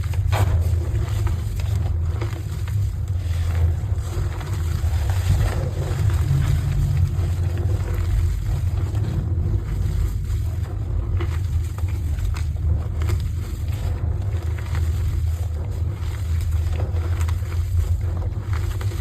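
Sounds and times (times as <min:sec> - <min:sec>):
chalk crumbling crackles: 0:00.0 - 0:19.0
steady low rumble: 0:00.0 - 0:19.0.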